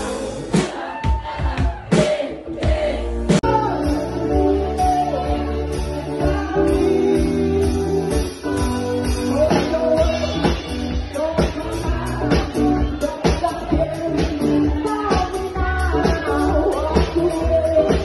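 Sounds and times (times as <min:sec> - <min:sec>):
drums: 0:00.0 - 0:18.0
woman singing: 0:03.4 - 0:18.0.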